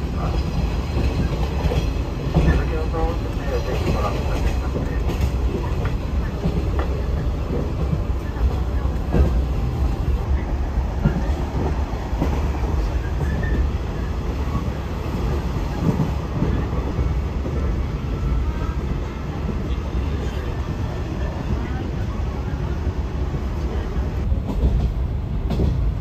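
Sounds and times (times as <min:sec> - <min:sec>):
train running rumble and clatter: 0:00.0 - 0:26.0.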